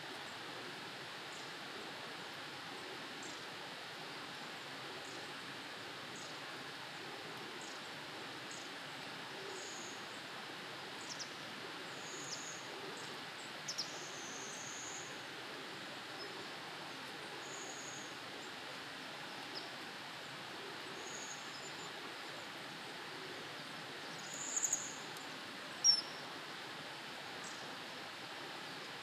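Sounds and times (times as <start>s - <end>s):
outdoor hiss: 0.0s - 29.0s.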